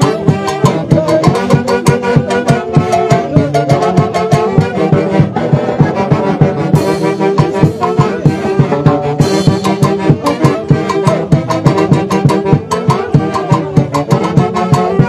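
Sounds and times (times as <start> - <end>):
horns playing melody: 0.0 - 15.0
steady drum beat: 0.0 - 15.0
wind band dance music: 0.0 - 15.0.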